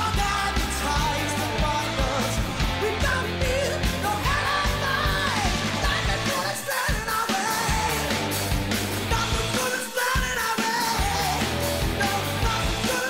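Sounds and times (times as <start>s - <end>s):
man singing lead vocal: 0.0s - 8.4s, 9.0s - 13.0s
bass guitar: 0.0s - 13.0s
drum beat: 0.0s - 13.0s
hard rock song: 0.0s - 13.0s.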